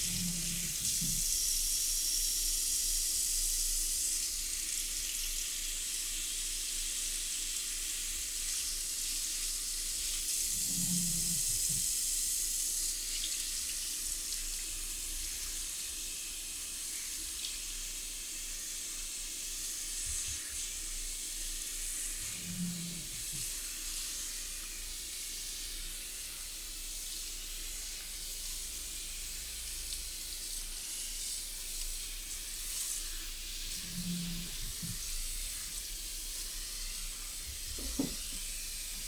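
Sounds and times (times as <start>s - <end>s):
water running into basin: 0.0s - 3.1s, 7.0s - 39.0s.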